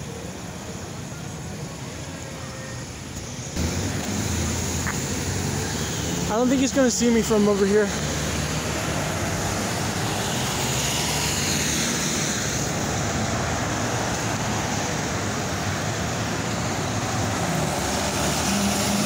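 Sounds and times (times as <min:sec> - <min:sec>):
tyre and engine noise: 0:00.0 - 0:19.0
cars passing close by: 0:03.2 - 0:19.0.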